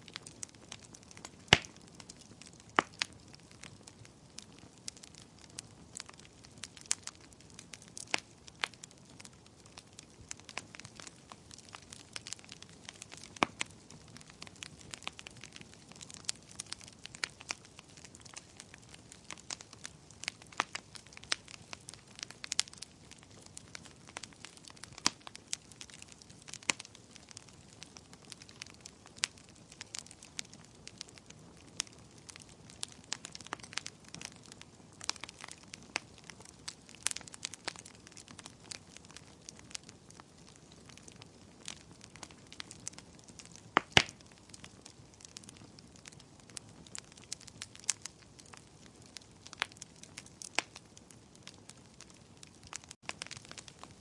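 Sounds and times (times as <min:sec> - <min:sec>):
bonfire crackling and popping: 0:00.0 - 0:54.0
soft hiss of burning: 0:00.0 - 0:54.0.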